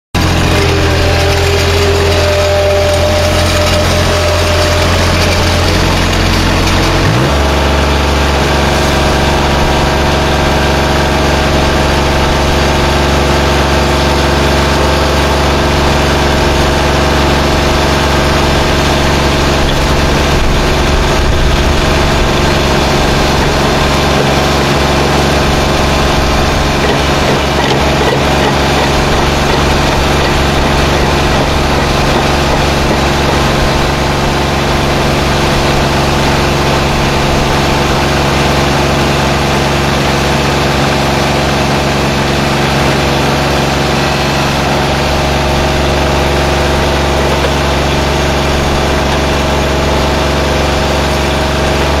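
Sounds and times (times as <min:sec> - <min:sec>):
loader engine running: 0:00.1 - 0:52.0
auger boring into soil: 0:00.2 - 0:52.0.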